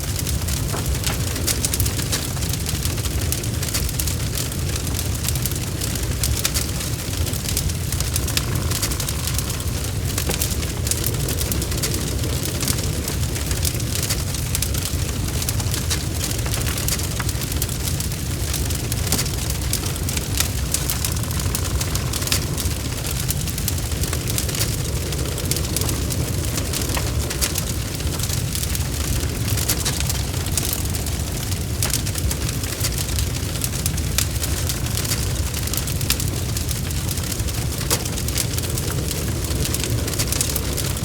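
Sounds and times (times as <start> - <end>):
low rumble of flames: 0.0 - 41.0
wood fire crackling and popping: 0.0 - 41.0.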